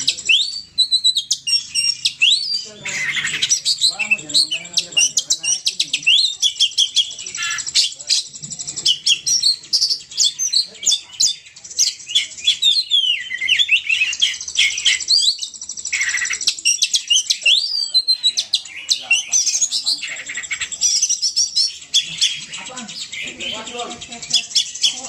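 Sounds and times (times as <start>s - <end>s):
small birds chirping and twittering: 0.0s - 25.0s.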